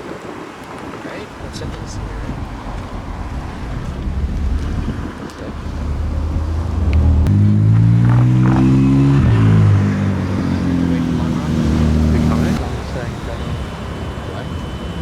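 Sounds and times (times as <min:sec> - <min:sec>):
car engine accelerating: 0:01.4 - 0:13.5.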